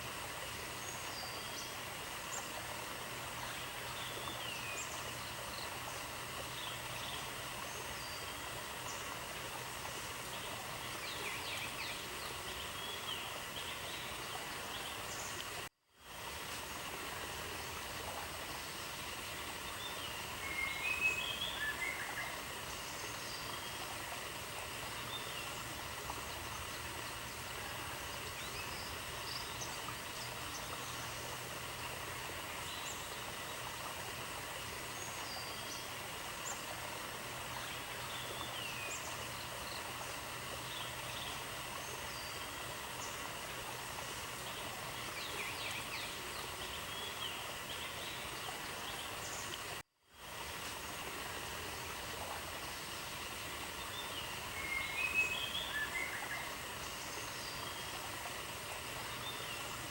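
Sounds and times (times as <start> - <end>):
constant hiss: 0.0 - 59.9.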